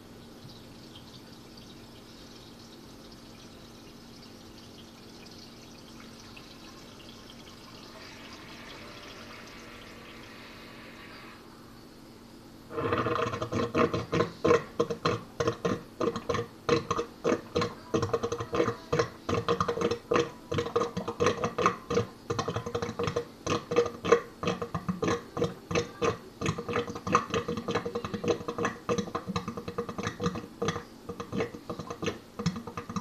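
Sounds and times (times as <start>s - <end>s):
sink drain gurgling: 0.0s - 11.4s, 12.7s - 33.0s.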